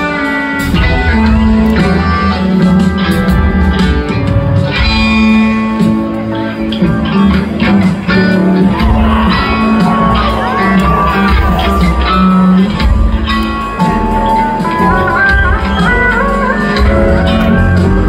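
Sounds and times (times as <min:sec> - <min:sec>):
electric guitar: 0:00.0 - 0:18.0
keyboards: 0:00.0 - 0:18.0.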